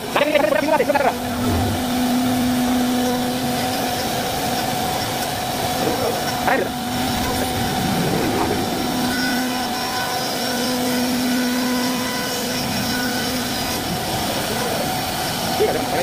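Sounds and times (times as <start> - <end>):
wood-carving router running: 0.0 - 16.0.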